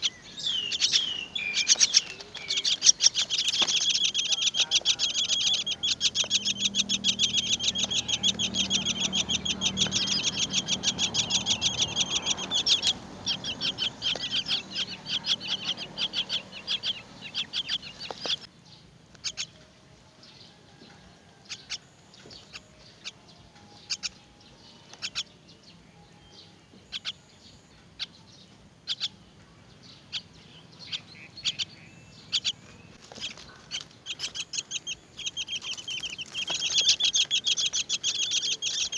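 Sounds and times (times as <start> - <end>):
nestlings chirping: 0.0 - 18.5, 19.1 - 19.6, 21.5 - 38.9.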